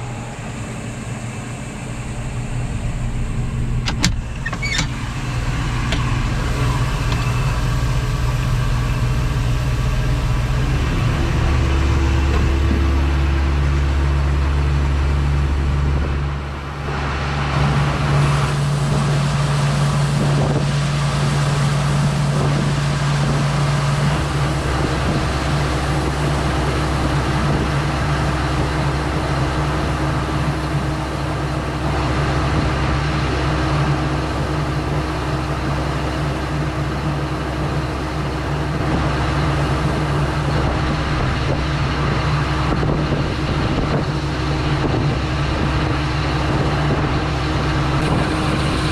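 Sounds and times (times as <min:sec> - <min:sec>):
combine harvester engine droning: 0:00.0 - 0:48.9.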